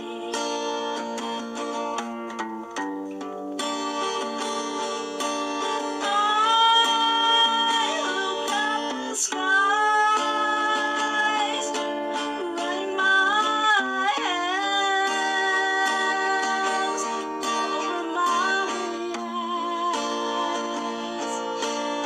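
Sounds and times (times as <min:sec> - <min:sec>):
plucked string notes: 0:00.0 - 0:22.0.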